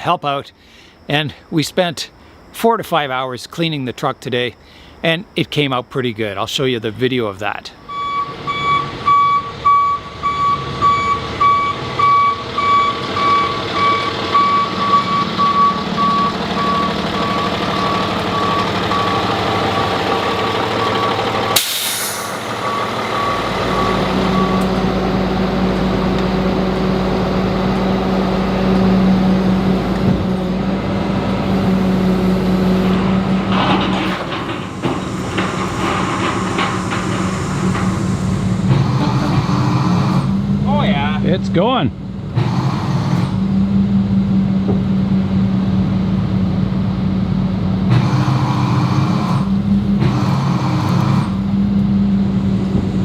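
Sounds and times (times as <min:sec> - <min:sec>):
truck reversing alarm beeping: 0:00.0 - 0:44.6
truck engine drone: 0:03.8 - 0:53.0.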